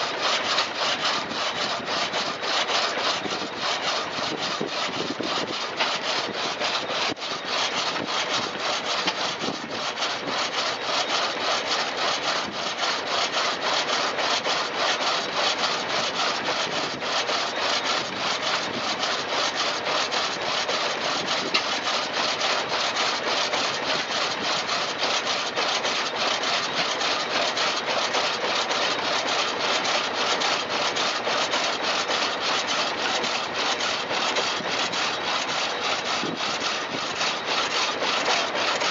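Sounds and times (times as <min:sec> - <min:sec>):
saw blade cutting through log: 0:00.0 - 0:38.9.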